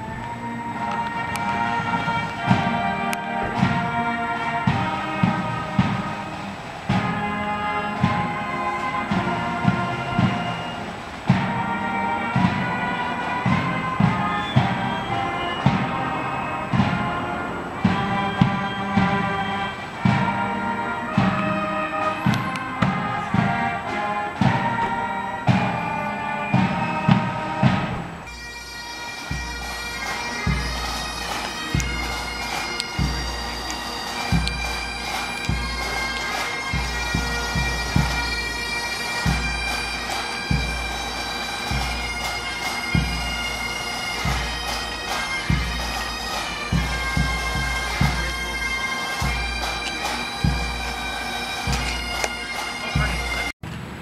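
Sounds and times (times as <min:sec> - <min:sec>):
bagpipes playing over drones: 0:00.0 - 0:53.6
band music: 0:00.0 - 0:53.6.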